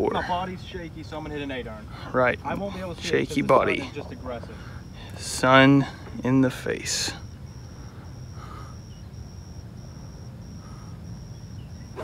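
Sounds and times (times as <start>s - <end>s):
insects chirping: 0.0s - 12.0s
low background hum: 0.0s - 12.0s.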